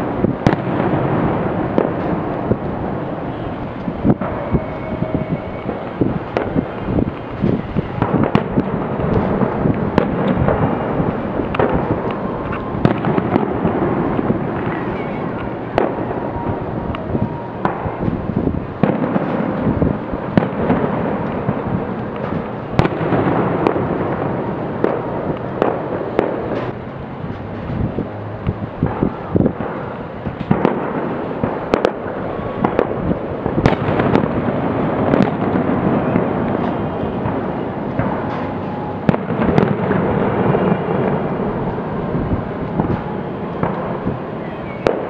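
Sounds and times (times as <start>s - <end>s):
fireworks bangs and crackling: 0.0s - 45.0s
sharp firework reports: 0.0s - 45.0s.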